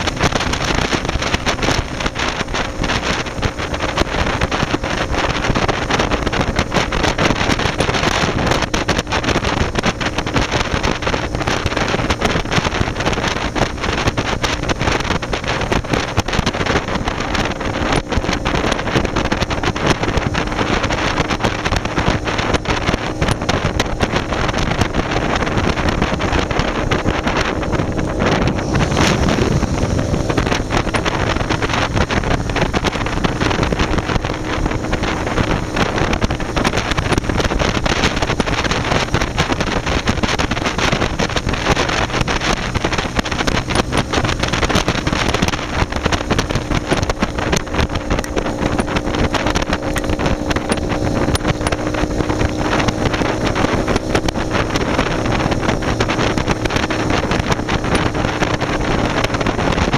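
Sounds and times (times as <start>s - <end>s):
motorcycle engine drone: 0.0s - 59.9s
wind rushing over microphone: 0.0s - 59.9s.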